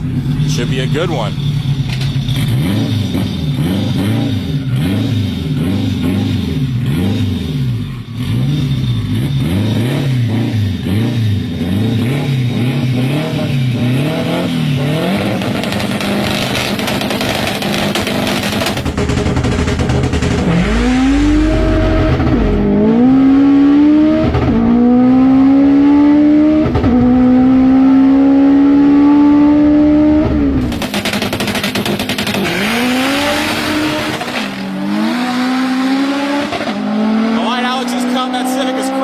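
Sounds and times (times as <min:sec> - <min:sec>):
engine revving through upshifts: 0:02.1 - 0:18.9, 0:20.1 - 0:39.0.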